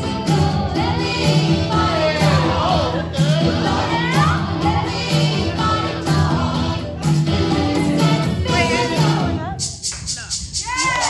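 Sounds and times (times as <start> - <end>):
pop song with beat and bass: 0.0 - 11.0.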